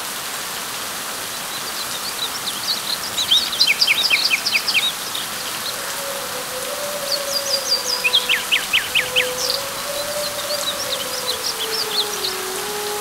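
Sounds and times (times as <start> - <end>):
rain on leaves: 0.0 - 13.0
bird chirping: 1.5 - 13.0.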